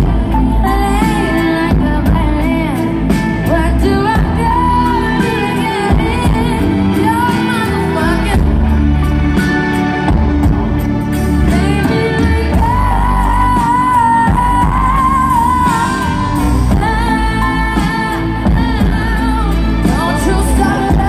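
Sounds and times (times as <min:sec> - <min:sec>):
woman singing with live band: 0:00.0 - 0:10.2, 0:11.4 - 0:21.0.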